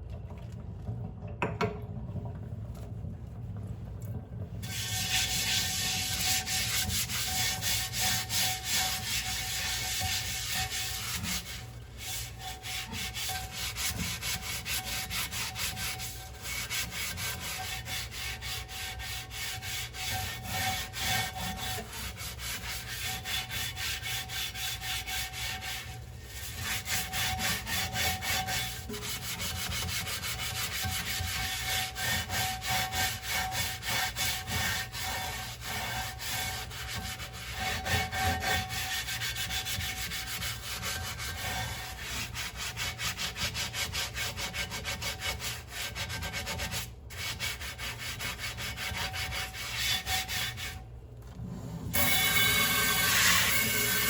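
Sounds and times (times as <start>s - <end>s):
dishes being scrubbed by hand: 4.6s - 50.8s, 51.8s - 54.0s.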